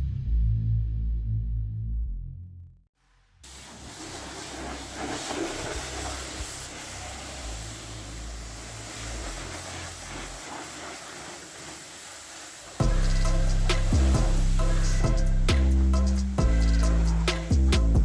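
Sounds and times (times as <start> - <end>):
pressure washer spraying water: 3.4 - 18.0.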